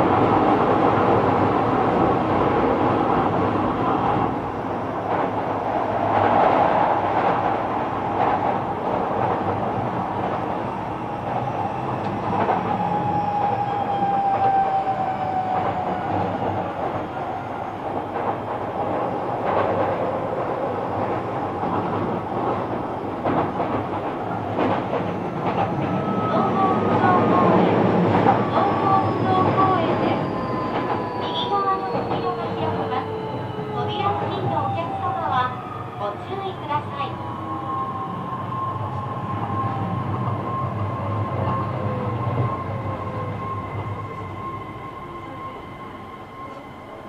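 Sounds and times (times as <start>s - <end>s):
train wheel and rail noise: 0.0s - 47.0s.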